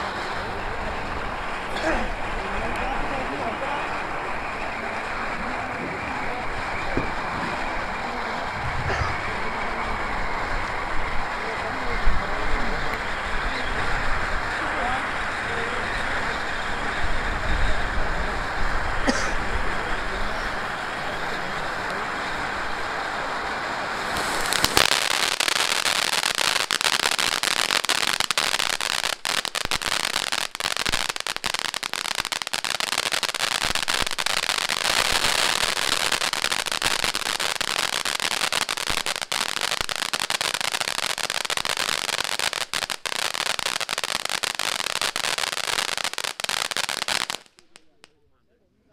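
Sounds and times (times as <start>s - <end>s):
firework fountain hissing and crackling: 0.0s - 48.1s.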